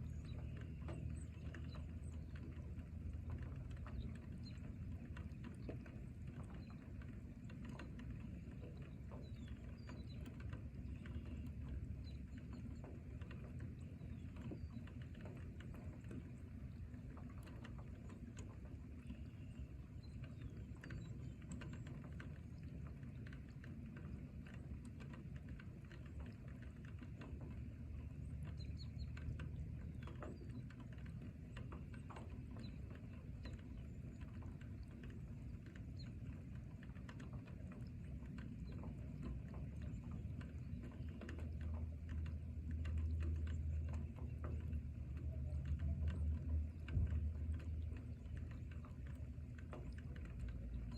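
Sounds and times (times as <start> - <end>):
low rain rumble: 0.0 - 50.9
raindrops pattering: 0.0 - 50.9.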